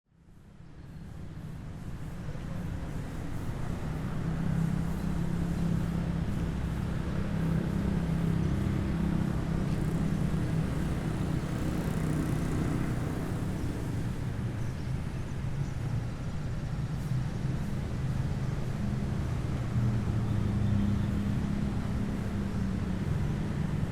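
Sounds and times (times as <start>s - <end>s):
road noise: 0.3s - 23.9s
vehicle engines humming: 2.0s - 23.9s.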